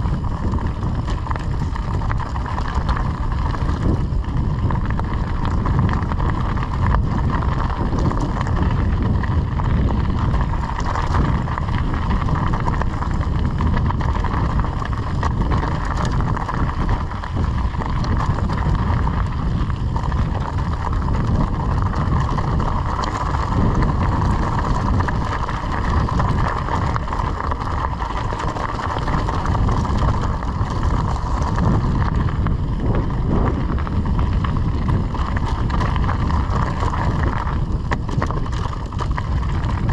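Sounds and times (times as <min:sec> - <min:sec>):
bike tyres crunching on gravel: 0:00.0 - 0:39.9
wind buffeting microphone: 0:00.0 - 0:39.9.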